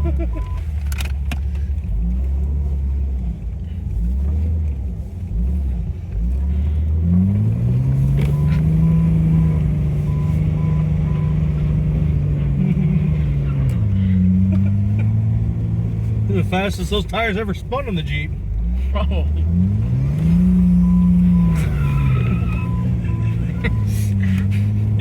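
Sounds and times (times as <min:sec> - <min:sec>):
car engine revving: 0:00.0 - 0:25.0
tires spinning on snow: 0:00.0 - 0:25.0.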